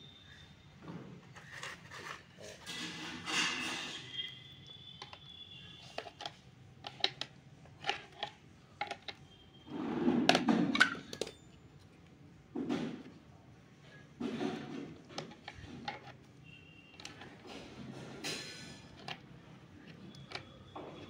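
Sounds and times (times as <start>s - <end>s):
crunching and handling noise: 1.2s - 21.0s.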